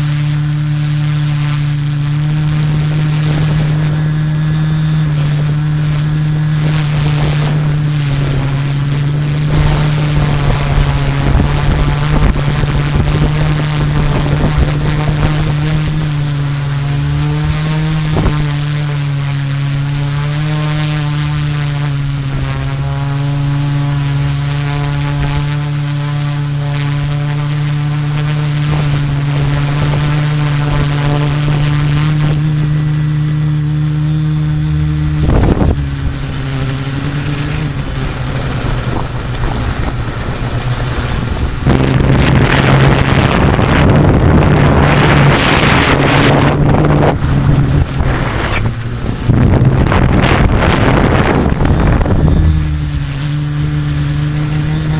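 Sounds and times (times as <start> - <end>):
drone propellers humming: 0.0 - 54.9
wind rushing over microphone: 0.0 - 54.9.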